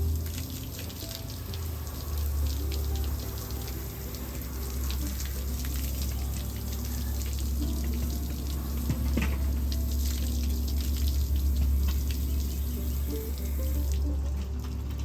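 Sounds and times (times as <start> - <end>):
water spraying on car body: 0.0 - 15.0.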